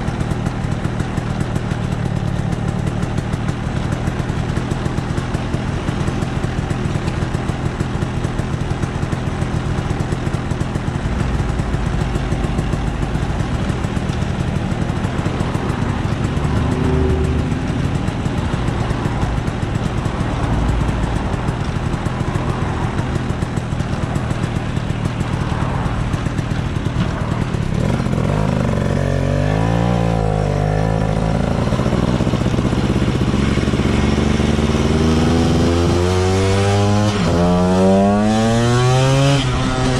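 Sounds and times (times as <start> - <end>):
scooter engine idling and revving: 0.0 - 39.9.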